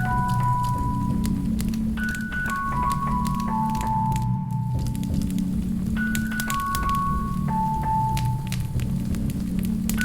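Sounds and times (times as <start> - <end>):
soft background music: 0.0 - 10.0
wood fire crackling: 0.0 - 10.0.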